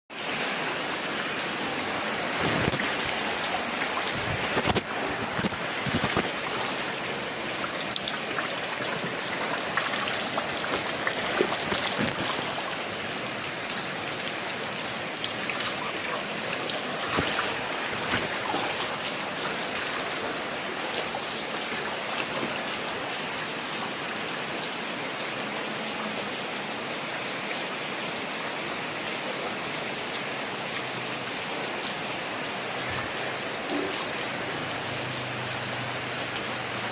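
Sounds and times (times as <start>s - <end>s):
rain falling steadily: 0.1s - 36.9s
raindrops splattering close by: 0.2s - 25.2s, 29.0s - 36.9s.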